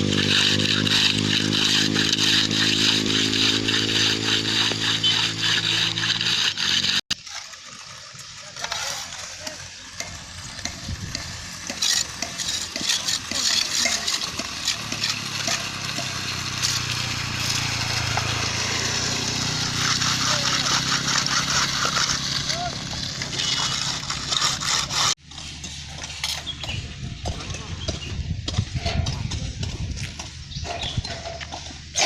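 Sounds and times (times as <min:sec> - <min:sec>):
mixer truck diesel engine: 0:00.0 - 0:27.7.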